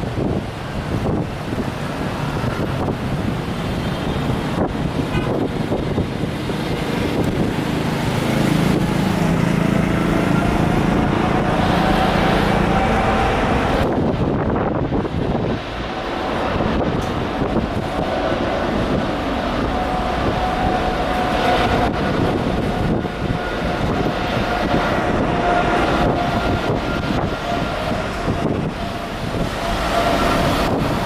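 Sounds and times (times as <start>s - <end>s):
jet engines running: 0.0s - 31.0s
wind buffeting microphone: 0.0s - 31.0s.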